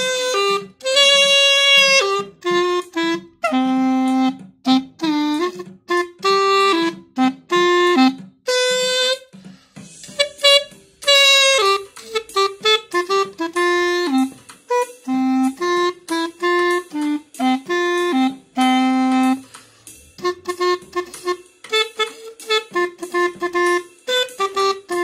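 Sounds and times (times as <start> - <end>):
clarinet solo melody: 0.0 - 9.4, 10.1 - 19.5, 20.2 - 25.0.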